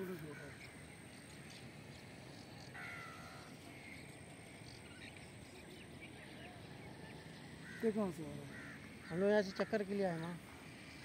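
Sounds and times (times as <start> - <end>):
faint outdoor ambience by water: 0.0 - 11.0.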